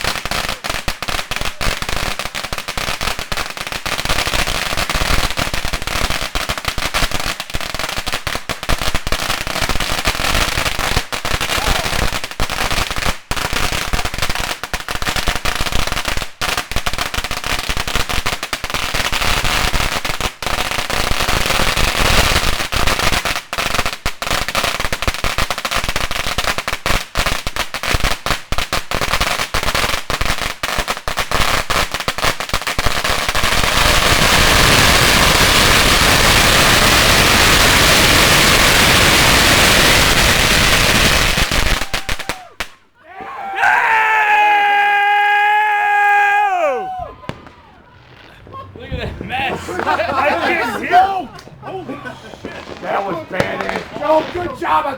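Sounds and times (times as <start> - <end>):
firecrackers going off: 0.0 - 54.9.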